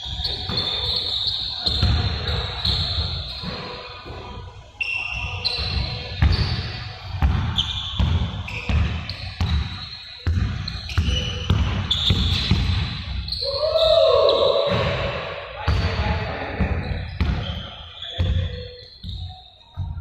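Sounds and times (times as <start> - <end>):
basketballs bouncing on gym floor: 0.0 - 4.4, 5.4 - 13.4, 14.6 - 20.0
sneaker squeaks: 0.0 - 20.0.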